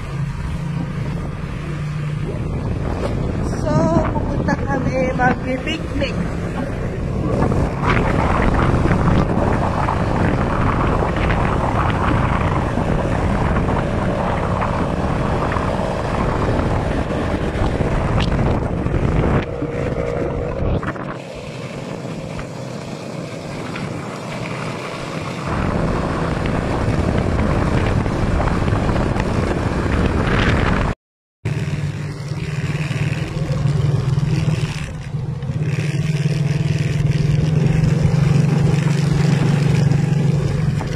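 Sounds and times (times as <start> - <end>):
motorcycle engine running: 0.0 - 30.9, 31.5 - 40.9
road and wind noise: 0.0 - 40.9.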